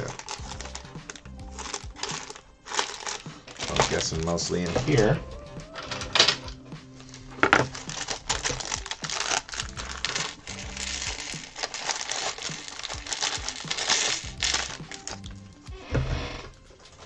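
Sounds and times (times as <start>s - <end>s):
plastic bag crinkling: 0.0s - 6.4s, 7.0s - 15.2s.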